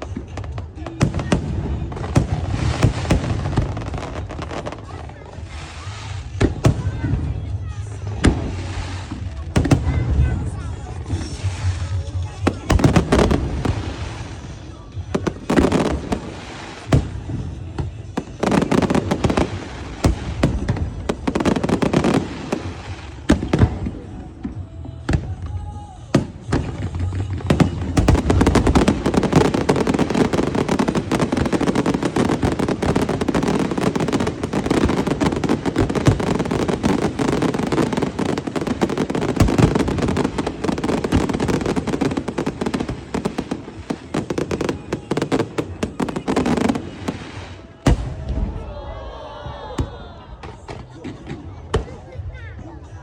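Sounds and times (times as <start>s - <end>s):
fireworks bangs and crackle: 0.0s - 53.0s.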